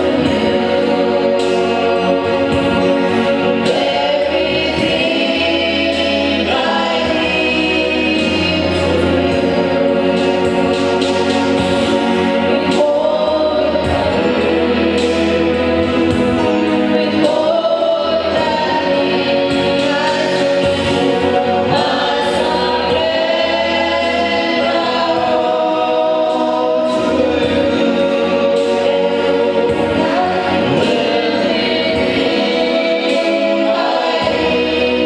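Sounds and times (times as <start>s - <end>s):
choir singing gospel music: 0.0s - 35.0s
instrumental backing: 0.0s - 35.0s.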